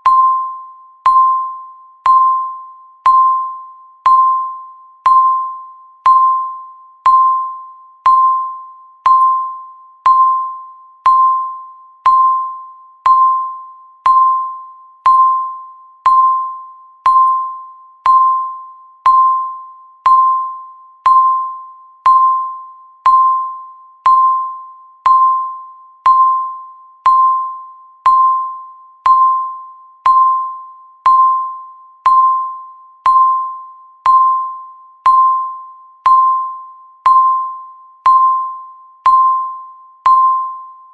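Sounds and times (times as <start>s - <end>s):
electronic timer tick tone: 0.0s - 40.9s.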